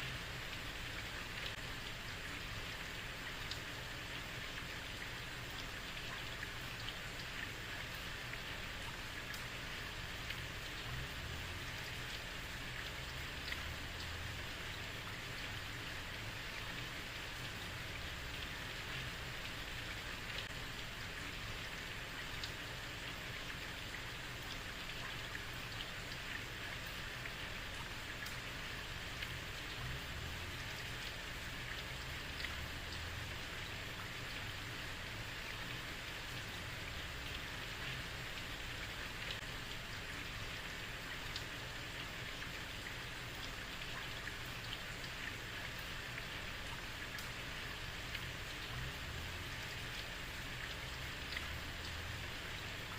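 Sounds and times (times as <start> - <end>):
close raindrop ticks: 0.0 - 52.9
heavy rain on a street: 0.0 - 52.9.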